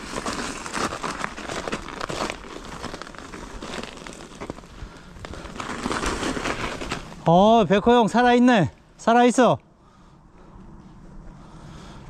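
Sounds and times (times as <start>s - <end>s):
bike tyres crunching snow: 0.0s - 12.0s.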